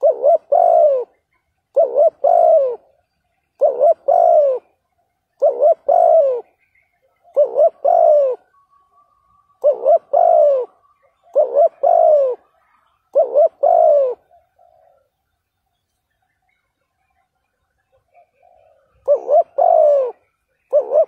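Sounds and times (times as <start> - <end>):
dove cooing: 0.0 - 15.2, 17.0 - 21.0.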